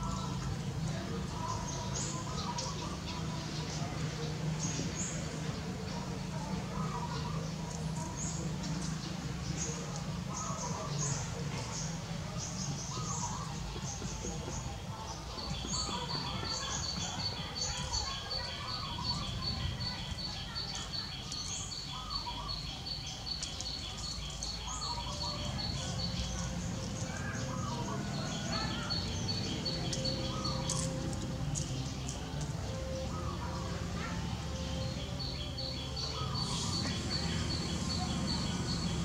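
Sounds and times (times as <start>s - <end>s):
other birds calling: 0.0s - 39.0s.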